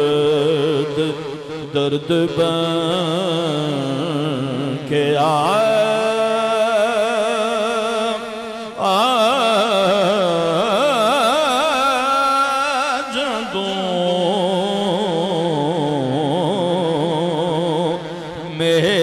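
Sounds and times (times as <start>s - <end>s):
man singing with vibrato: 0.0s - 19.0s.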